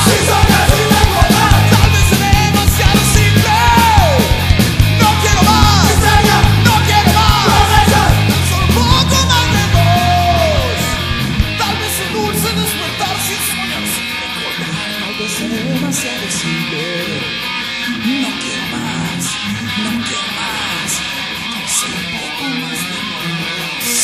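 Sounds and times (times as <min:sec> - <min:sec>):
heavy bass: 0:00.0 - 0:21.3
guitar: 0:00.0 - 0:24.0
heavy metal band playing: 0:00.0 - 0:24.0.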